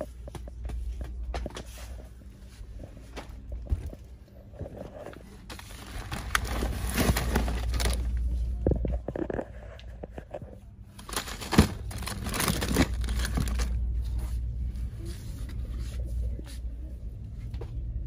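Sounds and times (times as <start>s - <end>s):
rustling and crinkling: 0.0s - 16.7s
steady low hum: 0.0s - 18.0s.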